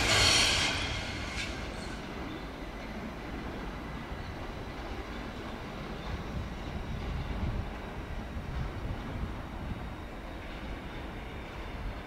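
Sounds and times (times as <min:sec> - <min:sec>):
electric locomotive rumbling: 0:00.0 - 0:12.0.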